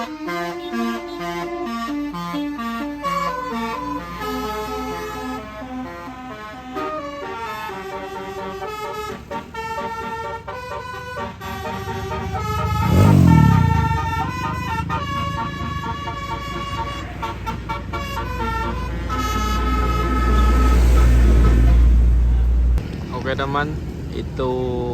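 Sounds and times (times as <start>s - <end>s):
bus musical horn tune: 0.0s - 22.6s
low engine rumble: 0.0s - 24.9s.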